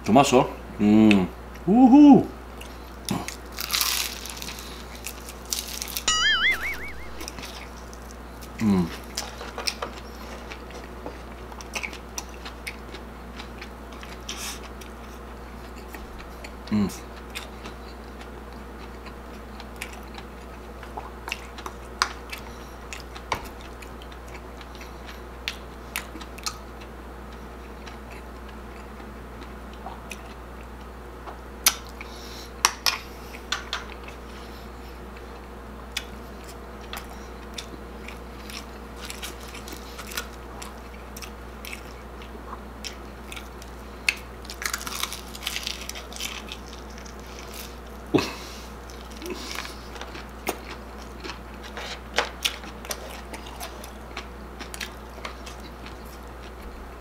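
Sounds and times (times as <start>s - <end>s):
person chewing crunchy food: 2.6s - 6.1s, 8.4s - 30.9s, 35.1s - 57.0s.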